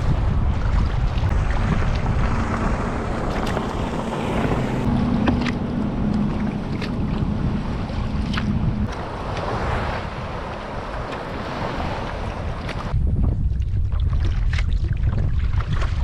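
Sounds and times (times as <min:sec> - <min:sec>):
water washing around kayak: 0:00.0 - 0:16.0
wind buffeting microphone: 0:00.0 - 0:16.0.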